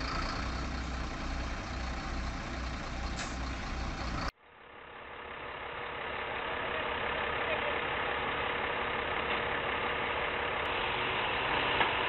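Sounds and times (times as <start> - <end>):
faint engine: 0.0 - 12.0
truck diesel engine rumbling: 0.0 - 12.0.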